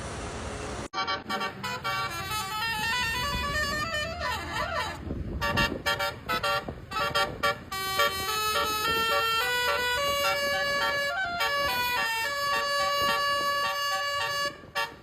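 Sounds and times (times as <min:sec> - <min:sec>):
bus musical horn playing: 0:00.9 - 0:15.0.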